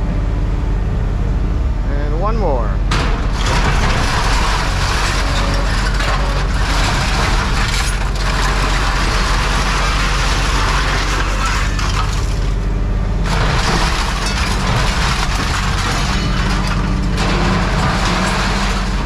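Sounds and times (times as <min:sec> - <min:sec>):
steady motor hum: 0:00.0 - 0:19.0
scrap metal crunching and clattering: 0:02.9 - 0:19.0.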